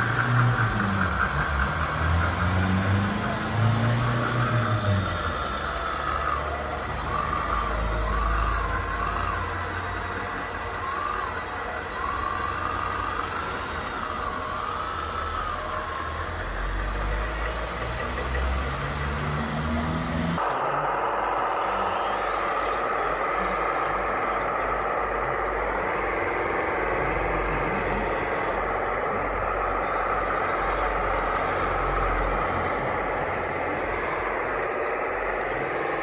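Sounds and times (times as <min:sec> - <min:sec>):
low engine-like hum: 0:00.0 - 0:35.8.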